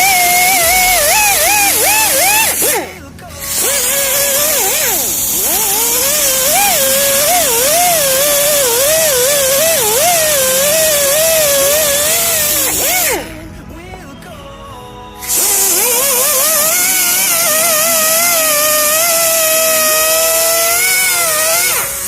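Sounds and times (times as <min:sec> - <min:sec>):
loud hiss: 0:00.0 - 0:13.5, 0:15.2 - 0:22.0.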